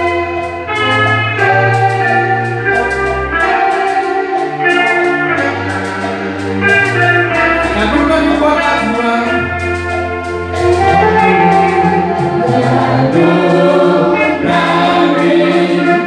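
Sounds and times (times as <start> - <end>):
bass line: 0.0 - 16.0
sustained keyboard chords: 0.0 - 16.0.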